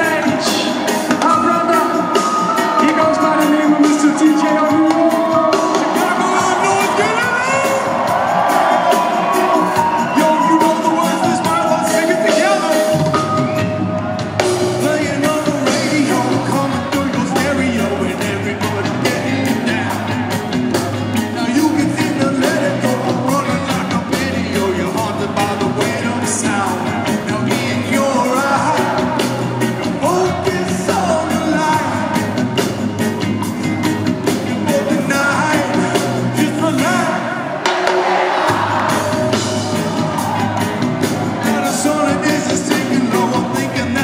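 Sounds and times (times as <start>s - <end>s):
lead singer singing: 0.0s - 33.0s, 34.3s - 44.0s
bass: 0.0s - 37.4s, 38.5s - 44.0s
drums steady beat: 0.0s - 44.0s
guitar: 0.0s - 44.0s
keyboards: 0.0s - 44.0s
live reggae band: 0.0s - 44.0s.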